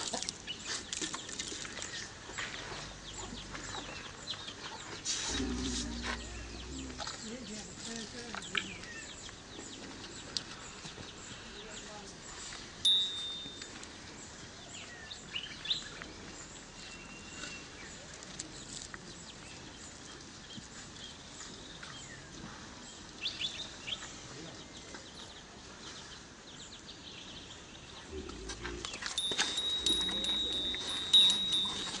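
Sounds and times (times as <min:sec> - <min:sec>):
birds chirping: 0:00.1 - 0:32.0.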